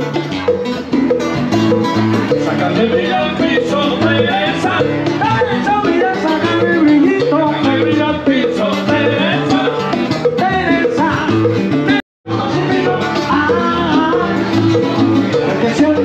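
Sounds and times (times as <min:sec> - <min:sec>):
salsa music with singer: 0:00.0 - 0:16.0.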